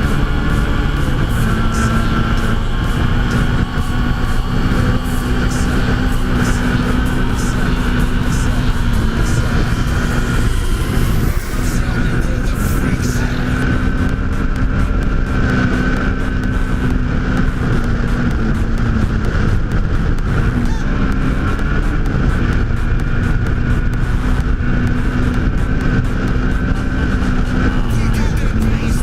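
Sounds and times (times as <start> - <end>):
steady high tone: 0.0 - 24.9
off-road vehicle engine running: 0.0 - 29.0.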